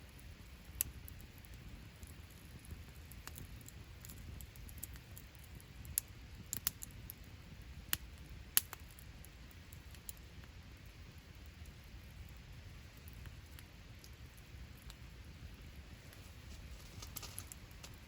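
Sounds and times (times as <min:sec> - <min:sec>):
campfire crackling and popping: 0:00.0 - 0:18.0
low rumble of fire: 0:00.0 - 0:18.0.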